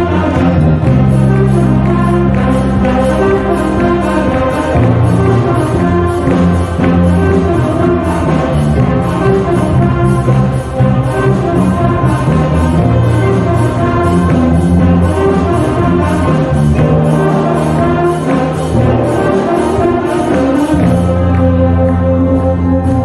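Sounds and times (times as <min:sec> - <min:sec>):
brass and saxophones: 0:00.0 - 0:23.0
drum kit beat: 0:00.0 - 0:23.0
keyboard: 0:00.0 - 0:23.0.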